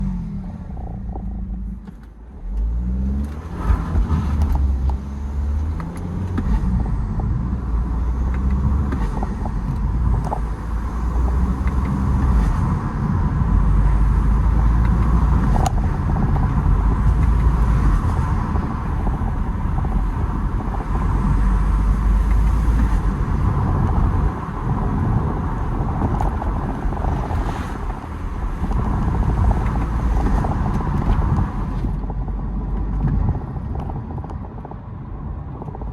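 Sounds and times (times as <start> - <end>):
diesel engine revving: 0.0 - 33.1.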